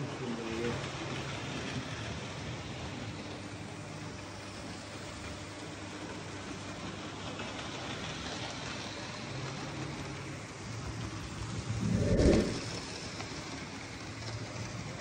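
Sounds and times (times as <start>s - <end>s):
model train motor and wheels hiss: 0.0s - 15.0s.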